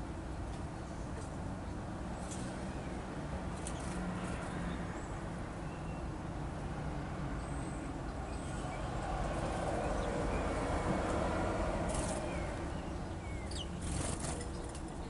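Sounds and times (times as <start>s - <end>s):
songbirds chirping: 0.1s - 6.7s, 7.3s - 15.0s.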